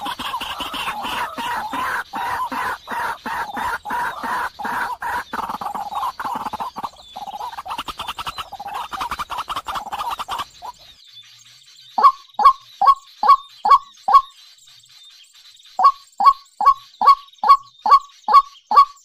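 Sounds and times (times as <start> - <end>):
chattering bird calls: 0.0 - 19.0.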